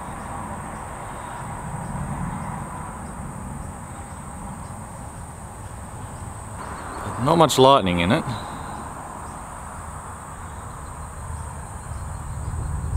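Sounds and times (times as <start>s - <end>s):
insects chorus: 0.0s - 12.9s.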